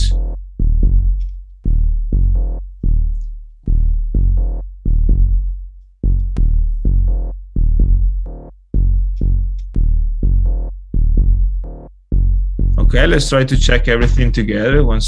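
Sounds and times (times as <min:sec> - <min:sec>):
deep synth bassline: 0:00.0 - 0:15.0
minimal house track: 0:00.0 - 0:15.0.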